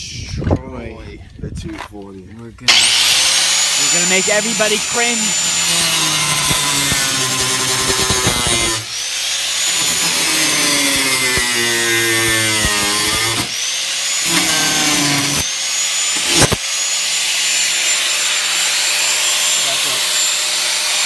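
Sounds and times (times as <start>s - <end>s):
power tool cutting sheet metal: 2.7s - 21.0s.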